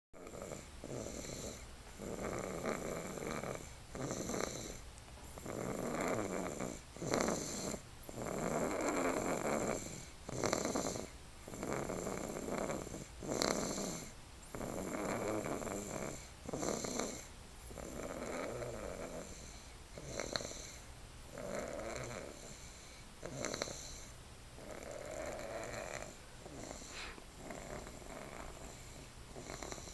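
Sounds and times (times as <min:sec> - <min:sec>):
rough rattly snoring: 0:00.2 - 0:04.8, 0:05.4 - 0:29.9.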